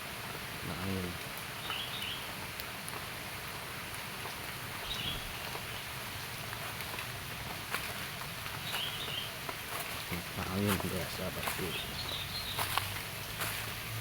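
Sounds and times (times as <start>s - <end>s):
wind rustling plants and trees: 0.0s - 14.0s.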